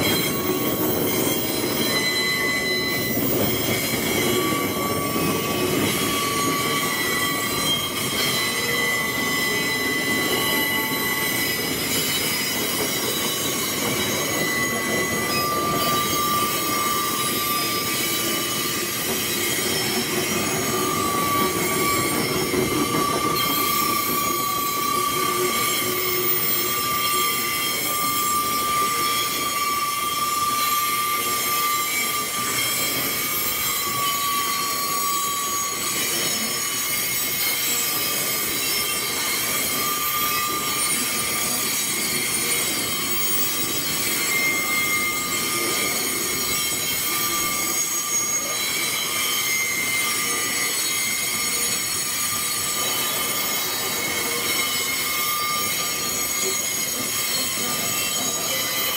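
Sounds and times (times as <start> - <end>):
train rumble: 0.0 - 58.9
wheels squealing: 0.0 - 58.9.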